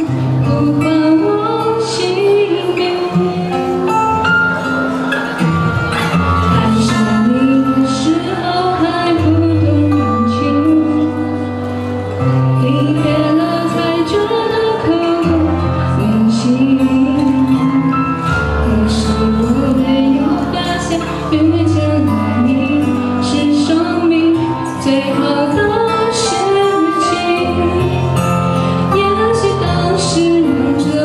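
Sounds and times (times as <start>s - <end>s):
woman singing into a microphone: 0.0s - 4.8s, 6.2s - 31.0s
instrumental accompaniment: 0.0s - 31.0s.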